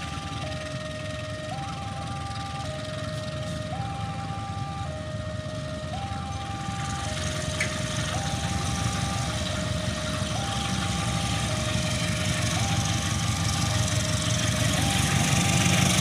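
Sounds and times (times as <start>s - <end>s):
diesel locomotive engine rumbling: 0.0s - 16.0s
level crossing alarm: 0.0s - 16.0s.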